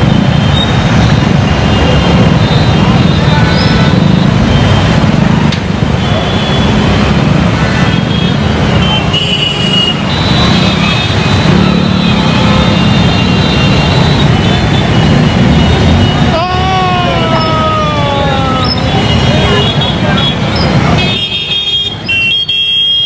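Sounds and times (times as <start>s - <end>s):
motorcycle and scooter engines: 0.0s - 23.0s.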